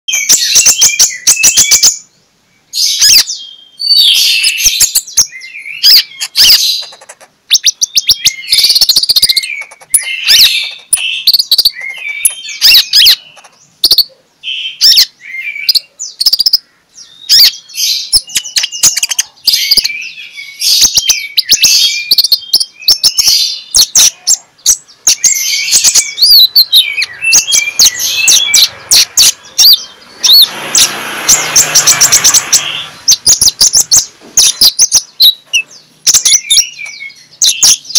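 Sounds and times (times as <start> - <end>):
sunbird singing: 0.1 - 37.9.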